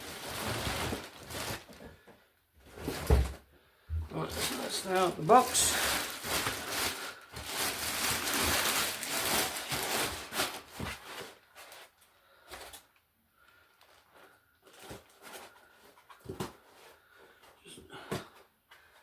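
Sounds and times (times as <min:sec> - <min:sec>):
cardboard and foam packaging rustling: 0:00.0 - 0:19.0.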